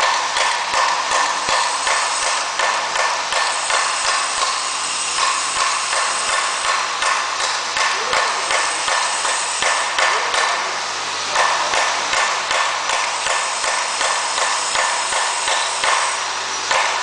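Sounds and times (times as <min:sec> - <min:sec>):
machine whirring: 0:00.0 - 0:17.0.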